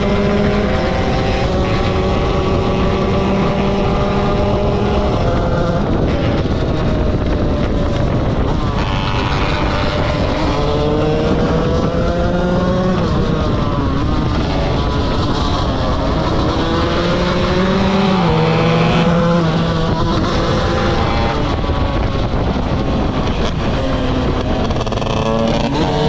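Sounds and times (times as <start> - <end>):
motorcycle engine at full throttle: 0.0 - 26.0.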